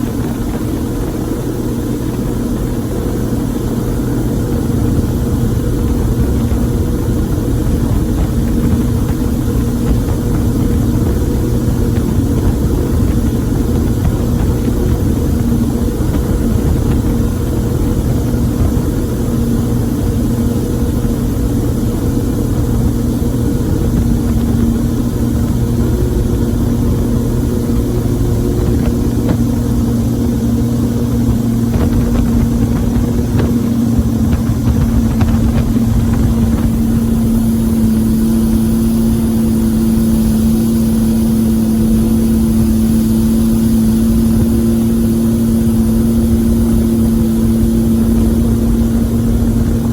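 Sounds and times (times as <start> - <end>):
boat motor humming: 0.0 - 49.9.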